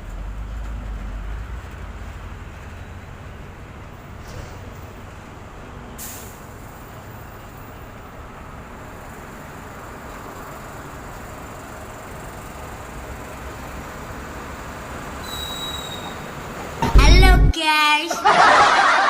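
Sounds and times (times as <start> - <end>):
road traffic rumble: 0.0 - 17.5.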